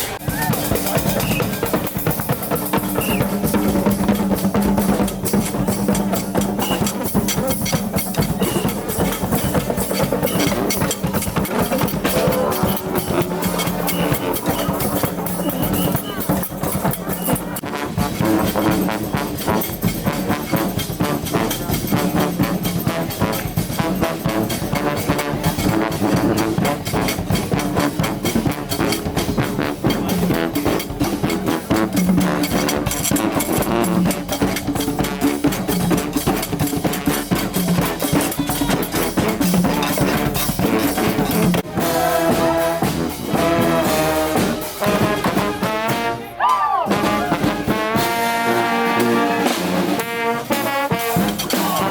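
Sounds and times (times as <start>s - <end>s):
brass band playing: 0.0s - 51.9s
drums beating: 0.0s - 51.9s.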